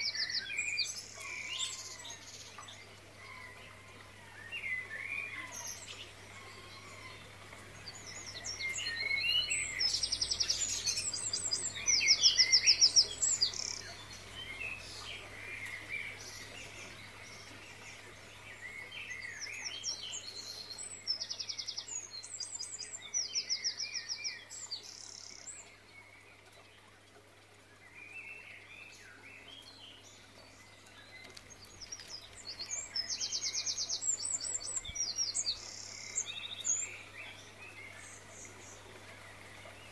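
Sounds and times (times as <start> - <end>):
birds singing trills and chirps: 0.0 - 39.9.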